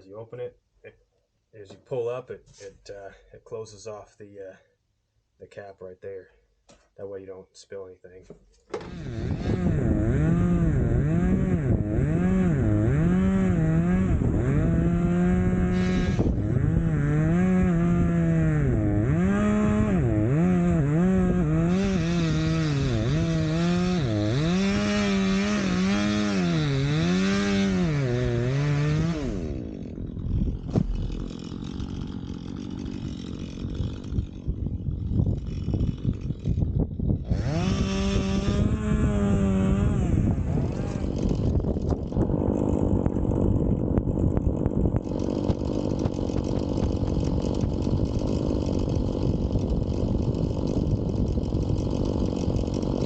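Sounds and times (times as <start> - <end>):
chainsaw cutting logs: 8.3 - 53.0.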